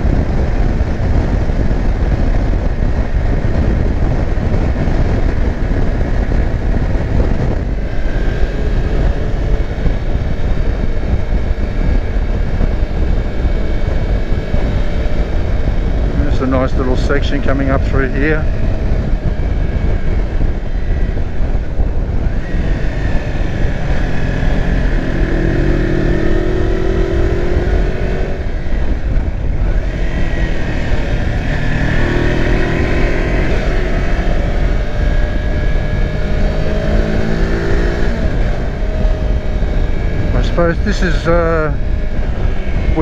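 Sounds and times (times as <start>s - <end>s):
motorcycle engine accelerating: 0.0s - 43.0s
wind rush on microphone: 0.0s - 43.0s.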